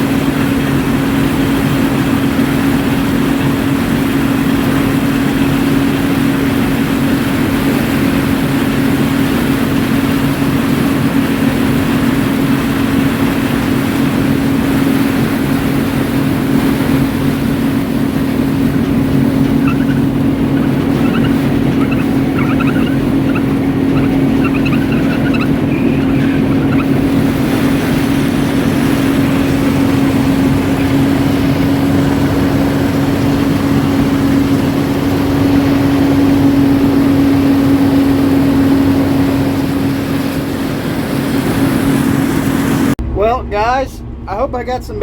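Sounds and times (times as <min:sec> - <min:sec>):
combine harvester droning: 0:00.0 - 0:45.0.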